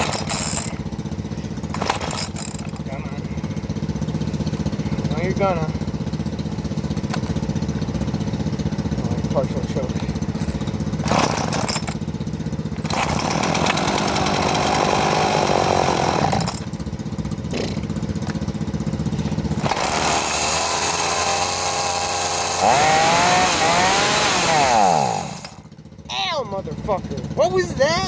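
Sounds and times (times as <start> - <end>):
chainsaw revving: 0.0 - 25.8.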